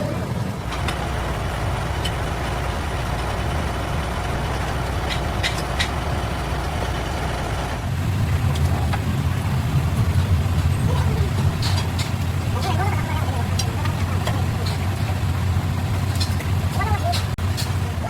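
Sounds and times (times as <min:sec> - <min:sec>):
large diesel engine idling: 0:00.0 - 0:18.0.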